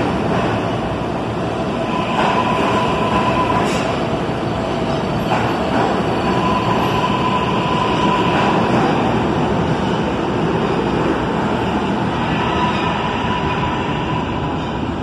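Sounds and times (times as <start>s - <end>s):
subway train rumbling past: 0.0s - 15.0s.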